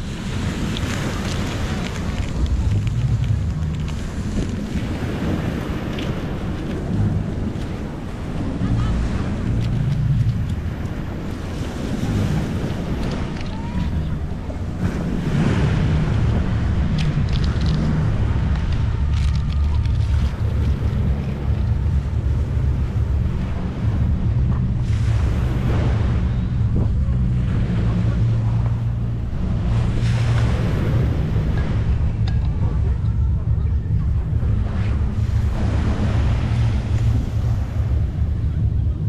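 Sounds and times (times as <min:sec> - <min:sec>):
surf washing on a beach: 0:00.0 - 0:39.0
wind buffeting the microphone: 0:00.0 - 0:39.0.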